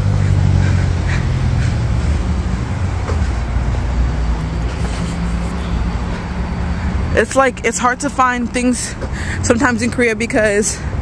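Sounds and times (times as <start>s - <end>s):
bus engine humming: 0.0s - 11.0s
street traffic noise: 0.0s - 11.0s.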